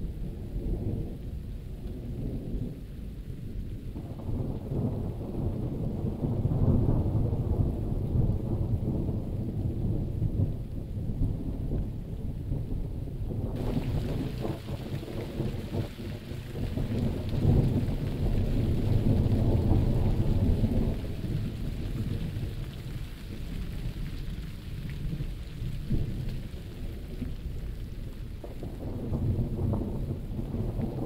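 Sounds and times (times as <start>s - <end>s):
steady rain: 0.0s - 31.0s
thunder rolling: 3.9s - 31.0s.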